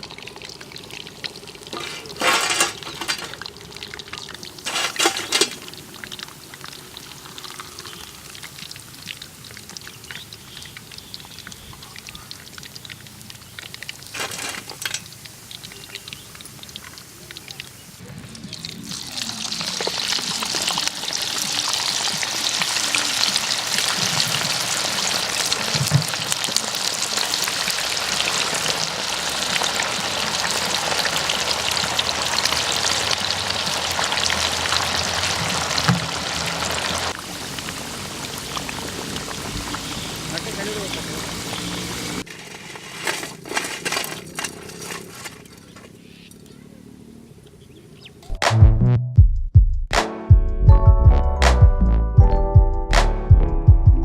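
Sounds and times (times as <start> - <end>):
food deep-frying in hot oil: 0.0 - 45.7.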